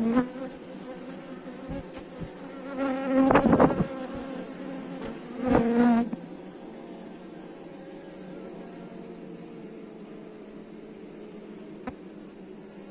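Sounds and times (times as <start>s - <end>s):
bee flying close by: 0.0s - 12.9s
honeybees buzzing: 0.0s - 12.9s.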